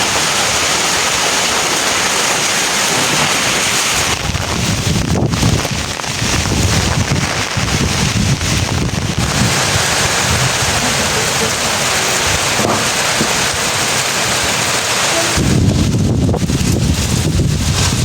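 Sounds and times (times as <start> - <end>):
heavy rain pouring: 0.0 - 18.0
wind buffeting microphone: 2.6 - 18.0.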